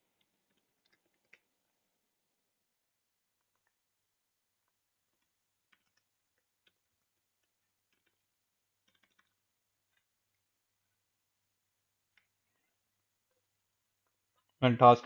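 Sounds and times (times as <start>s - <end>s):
faint keyboard typing: 0.0s - 2.5s, 3.1s - 15.0s.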